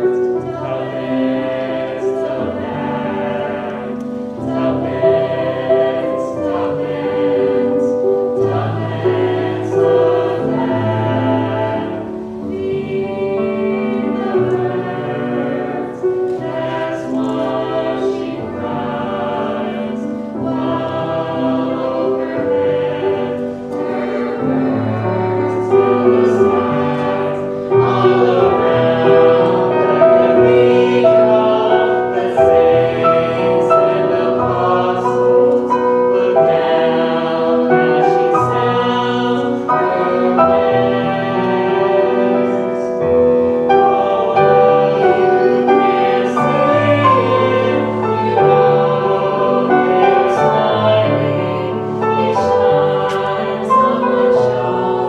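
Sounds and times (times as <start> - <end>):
vocal ensemble singing: 0.0 - 55.0.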